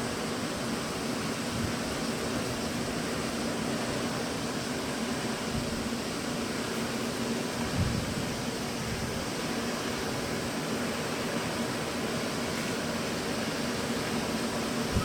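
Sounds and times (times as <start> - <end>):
ship machinery hum: 0.0 - 15.0.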